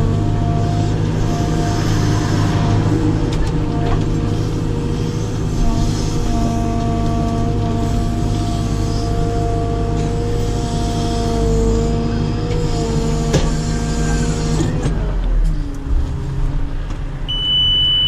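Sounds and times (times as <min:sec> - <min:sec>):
diesel engine under load: 0:00.0 - 0:18.0
hydraulics whining: 0:00.0 - 0:18.0.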